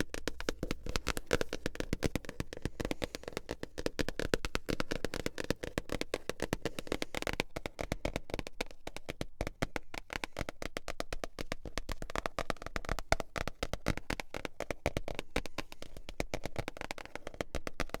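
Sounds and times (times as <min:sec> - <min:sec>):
fast tapping on books: 0:00.0 - 0:18.0.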